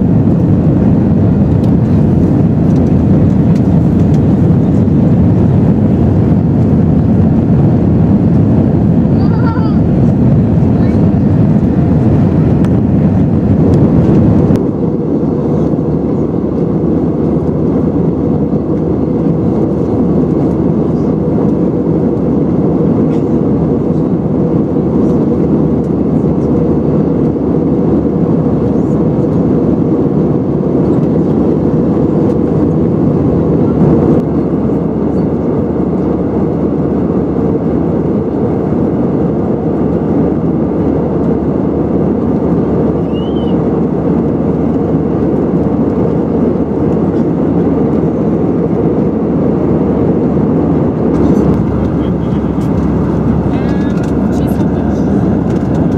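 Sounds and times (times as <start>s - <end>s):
airliner cabin engine rush: 0.0s - 55.9s.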